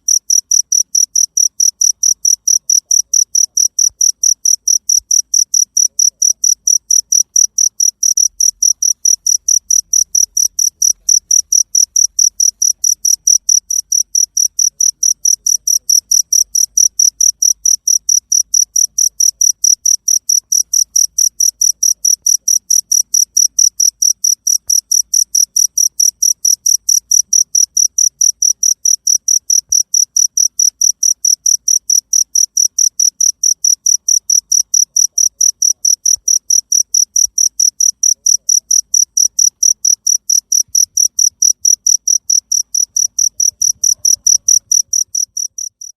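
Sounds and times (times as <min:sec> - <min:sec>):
cricket chirping: 0:00.0 - 0:45.9.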